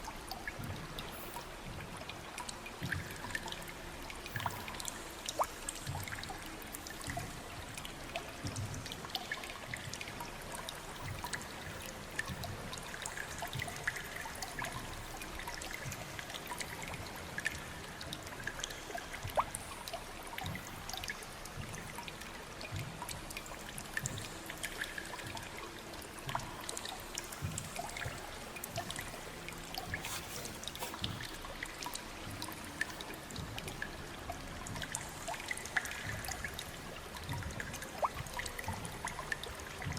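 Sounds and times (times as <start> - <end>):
water drips and splashes: 0.0 - 39.9
water trickling and pouring: 0.0 - 39.9.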